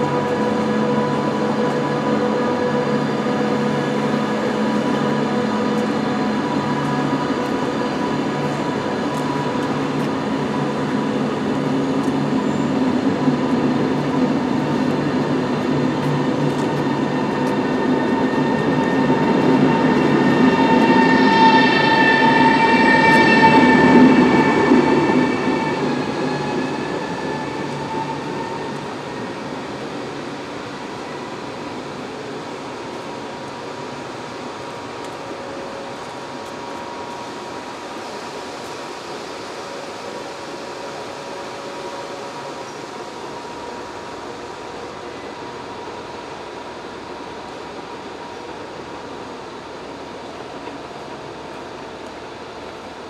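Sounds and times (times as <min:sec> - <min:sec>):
train rumbling on rails: 0:00.0 - 0:53.0.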